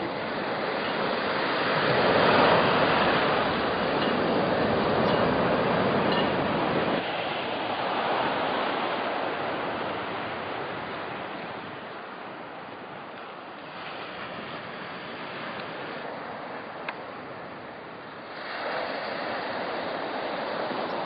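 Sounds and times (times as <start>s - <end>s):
sea surf breaking: 0.0s - 21.0s.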